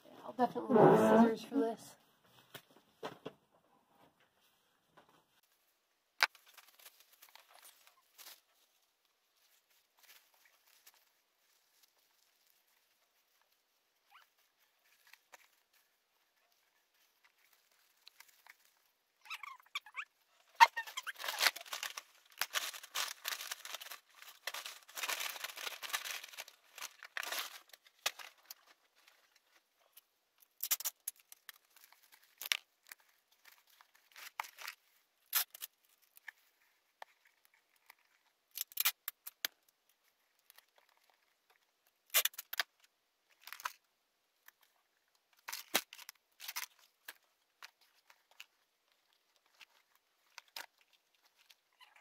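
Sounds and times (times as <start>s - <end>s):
wrapping paper rustling: 6.2s - 43.9s, 45.4s - 52.0s.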